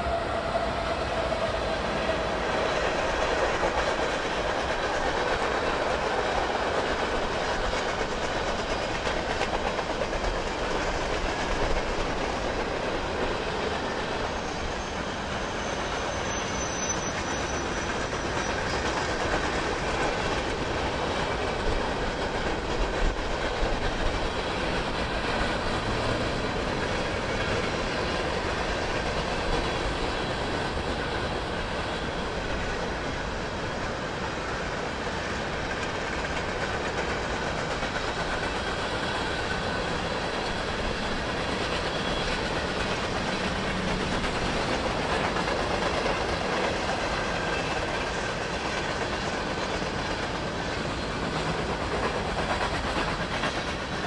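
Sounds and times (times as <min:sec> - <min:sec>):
diesel locomotives passing: 0:00.0 - 0:54.0
train wheels clickety-clack: 0:00.0 - 0:54.0.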